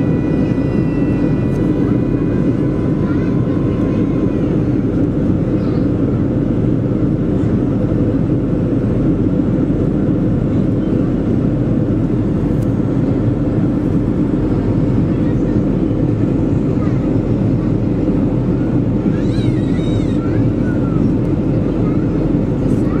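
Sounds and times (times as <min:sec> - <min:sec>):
airplane cabin engine roar: 0:00.0 - 0:23.0.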